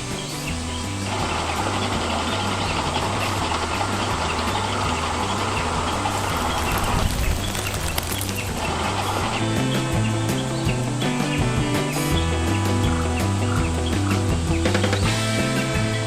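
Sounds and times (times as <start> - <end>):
electric motor and gears whirring: 0.0 - 15.9
background music with bass line: 0.0 - 16.0.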